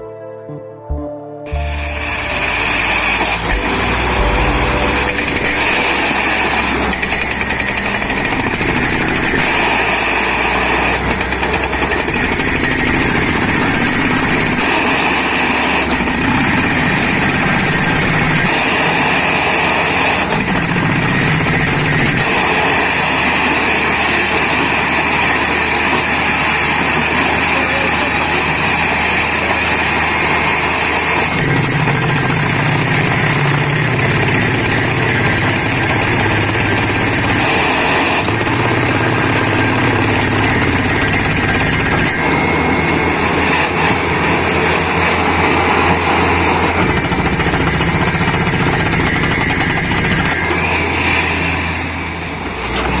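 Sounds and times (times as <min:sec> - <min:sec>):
air hammer rapid hammering: 0:01.5 - 0:44.4, 0:45.2 - 0:51.4
drilling rig engine: 0:01.5 - 0:53.0.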